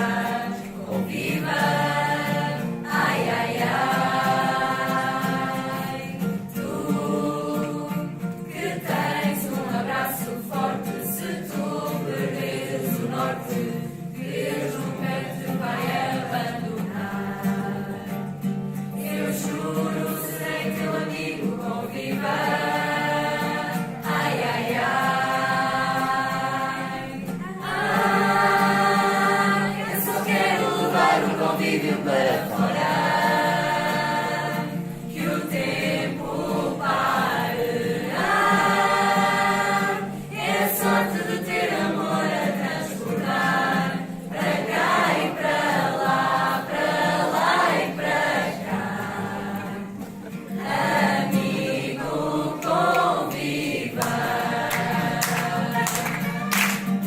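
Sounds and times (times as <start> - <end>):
group singing religious song: 0.0 - 57.0.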